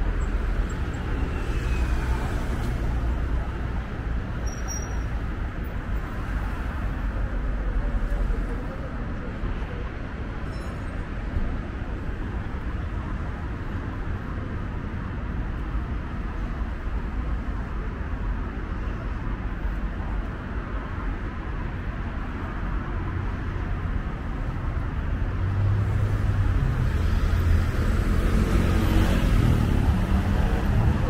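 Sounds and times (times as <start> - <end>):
passing cars road noise: 0.0 - 31.0.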